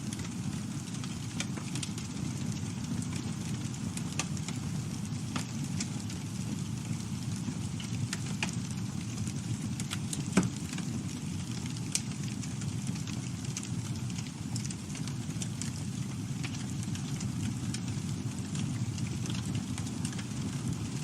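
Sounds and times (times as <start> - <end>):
campfire flames rushing: 0.0 - 21.0
wood crackling and popping: 0.0 - 21.0.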